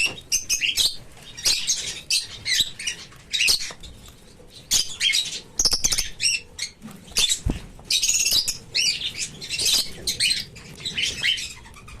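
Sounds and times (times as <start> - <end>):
bird chirping and squawking: 0.0 - 12.0.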